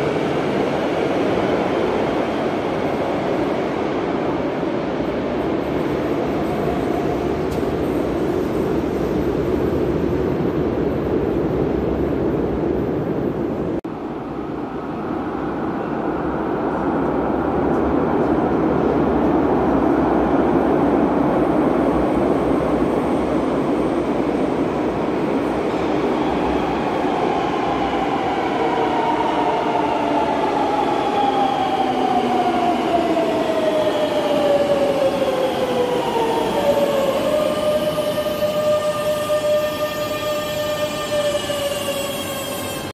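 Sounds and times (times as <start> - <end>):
train rumble in tunnel: 0.0 - 42.9.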